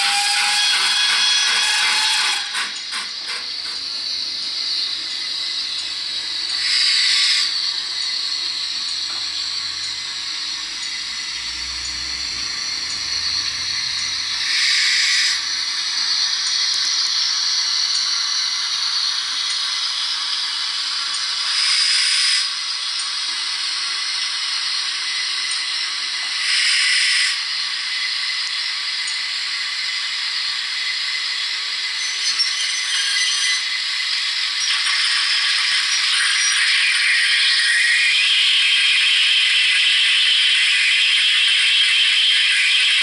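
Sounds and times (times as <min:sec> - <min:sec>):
model steam locomotive sound: 0:00.0 - 0:43.0.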